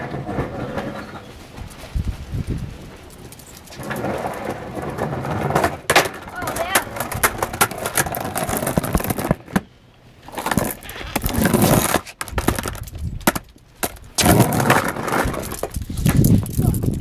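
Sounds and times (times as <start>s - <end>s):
skateboard wheels rolling on concrete: 0.0s - 17.0s.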